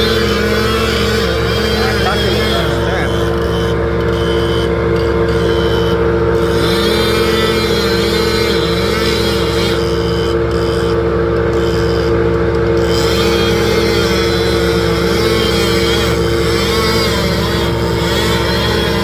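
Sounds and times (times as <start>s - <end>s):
large engine droning: 0.0s - 19.0s.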